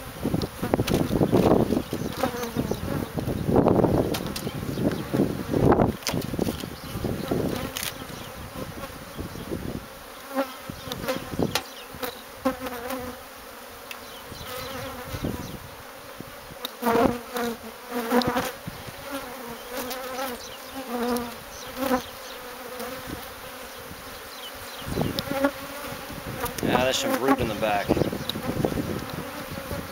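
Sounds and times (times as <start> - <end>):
bees buzzing: 0.0 - 29.9.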